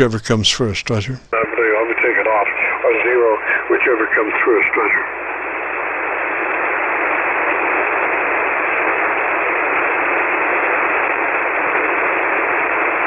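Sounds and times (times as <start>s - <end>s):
radio receiver hiss: 0.0s - 13.0s.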